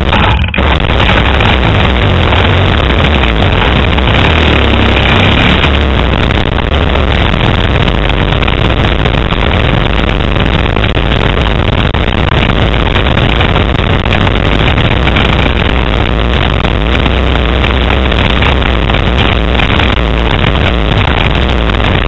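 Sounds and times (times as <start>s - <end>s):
motorbike engine under throttle: 0.0s - 22.0s.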